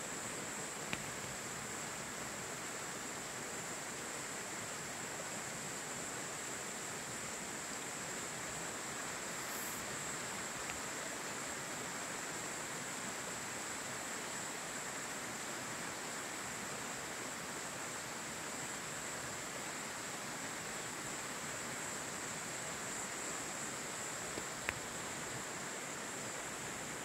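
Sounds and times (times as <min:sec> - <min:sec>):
even hiss: 0:00.0 - 0:27.0
high thin insect chorus: 0:00.0 - 0:27.0.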